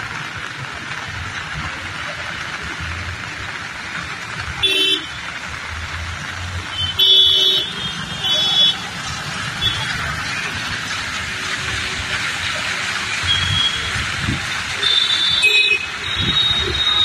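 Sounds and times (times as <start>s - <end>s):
heavy rain hissing on street: 0.0s - 17.0s
passing car traffic: 0.0s - 17.0s.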